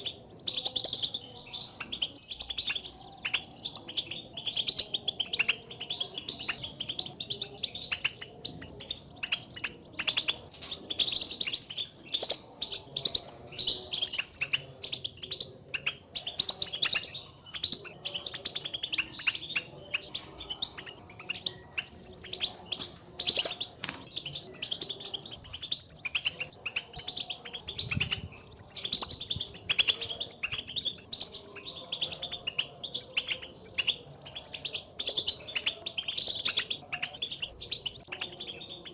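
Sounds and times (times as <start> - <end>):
finches twittering calls: 0.0 - 38.9.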